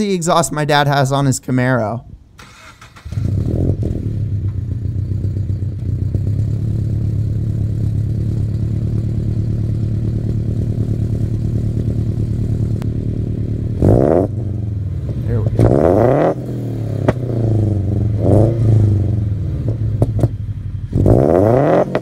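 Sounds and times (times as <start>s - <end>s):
car engine idling and revving: 2.4s - 22.0s.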